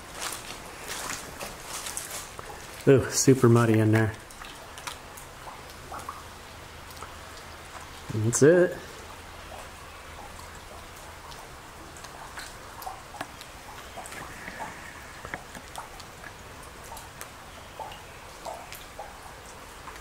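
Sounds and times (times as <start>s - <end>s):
faint steady hiss: 0.0s - 20.0s
water drips into pool: 0.0s - 20.0s.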